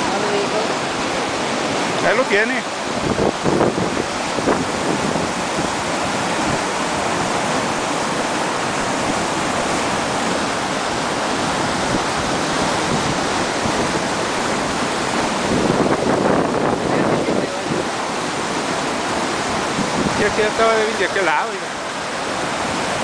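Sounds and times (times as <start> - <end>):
flood water rushing: 0.0 - 23.0.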